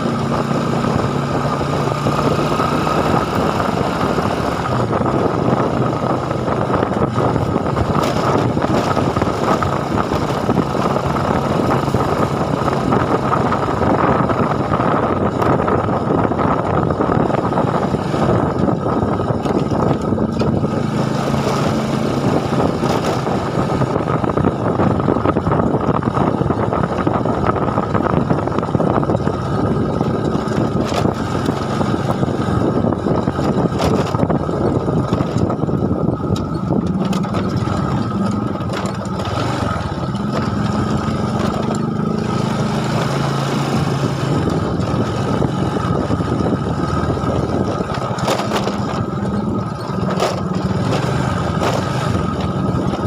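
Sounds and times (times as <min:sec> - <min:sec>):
engine running with low rumble: 0:00.0 - 0:53.0.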